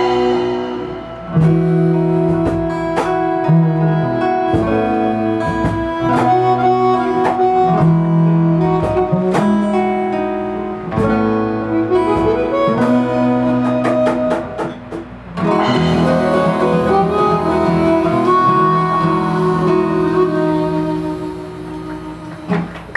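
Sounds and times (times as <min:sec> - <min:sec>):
acoustic instrumental music: 0:00.0 - 0:22.9.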